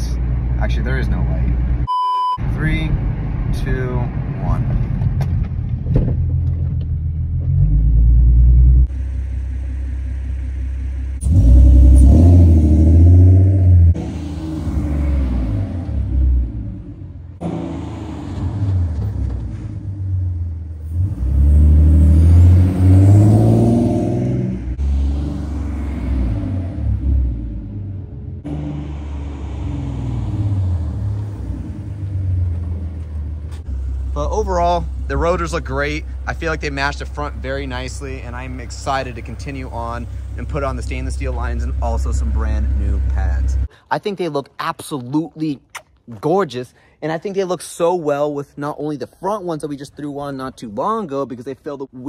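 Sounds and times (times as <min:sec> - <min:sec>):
car engine rumble: 0:00.0 - 0:43.8.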